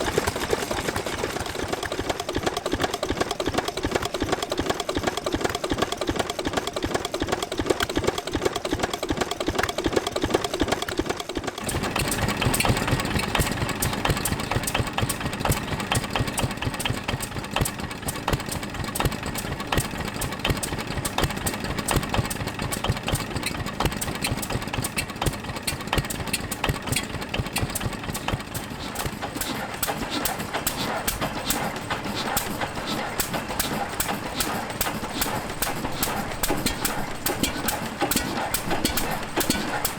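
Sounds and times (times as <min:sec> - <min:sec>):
engine with fuller louder beat: 0:00.0 - 0:39.9
stationary engine idling: 0:00.0 - 0:39.9.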